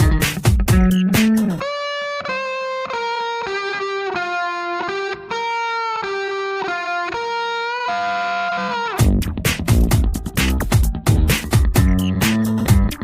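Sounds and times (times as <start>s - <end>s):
electric guitar melody: 0.0s - 13.0s.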